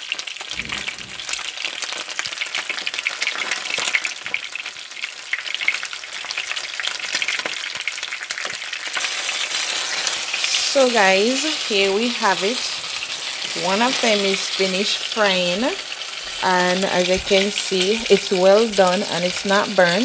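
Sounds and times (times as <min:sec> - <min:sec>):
fish sizzling in oil: 0:01.9 - 0:20.0.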